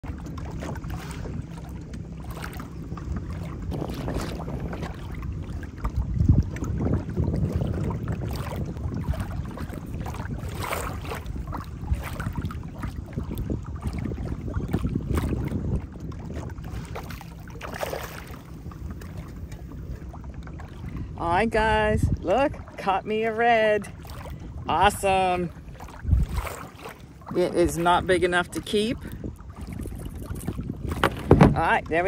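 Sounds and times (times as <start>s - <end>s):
water slapping kayak hull: 0.0s - 32.0s
wind on microphone: 0.0s - 32.0s.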